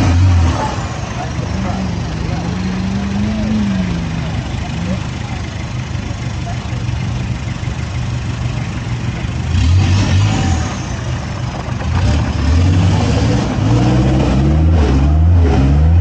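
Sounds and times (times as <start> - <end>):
engine revving: 0.0 - 6.1, 9.0 - 16.0.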